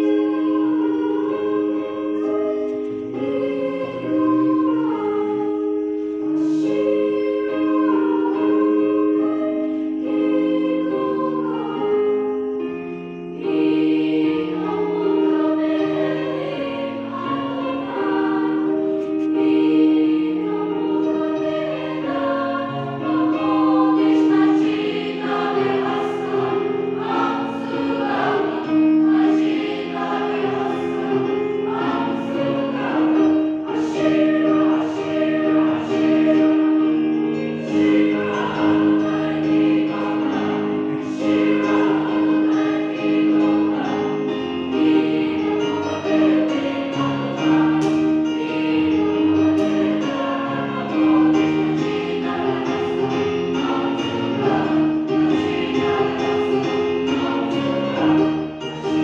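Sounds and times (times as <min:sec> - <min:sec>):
children's choir singing gospel: 0:00.0 - 0:59.0.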